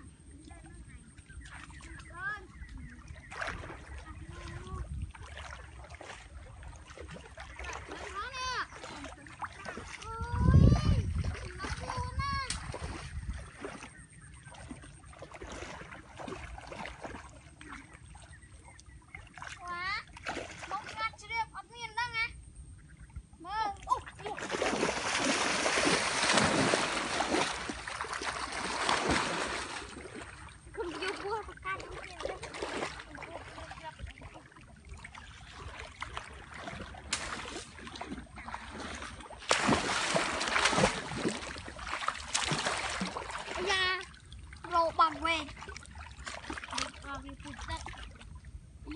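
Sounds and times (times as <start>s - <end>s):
legs wading through water: 0.0s - 48.9s.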